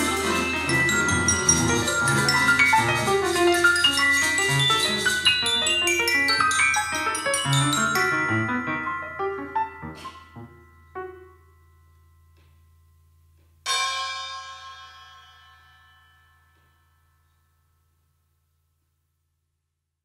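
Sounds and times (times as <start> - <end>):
piano and mallet percussion: 0.0 - 17.9.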